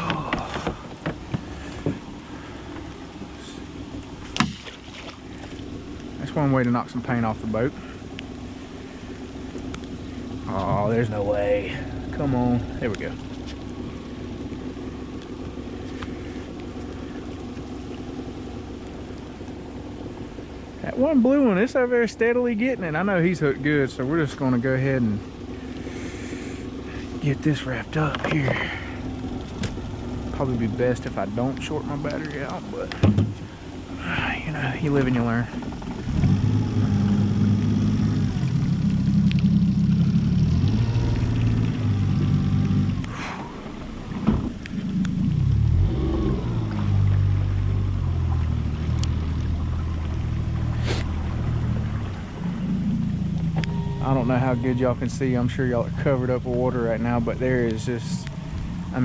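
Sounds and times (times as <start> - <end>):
small boat motor humming: 0.0 - 59.0.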